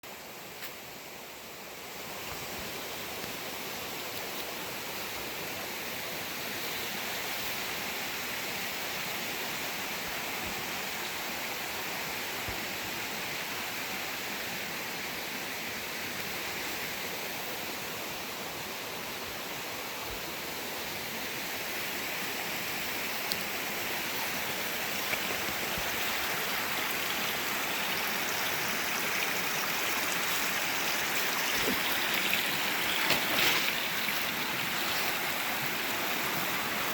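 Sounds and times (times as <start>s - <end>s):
creek water rushing over rocks: 0.1s - 36.9s.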